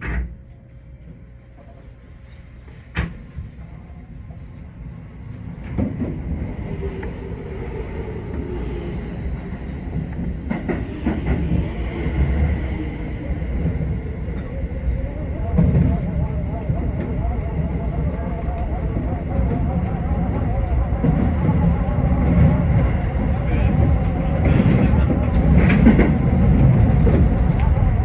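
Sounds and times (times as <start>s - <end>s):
electric train rumbling on rails: 0.0s - 28.0s.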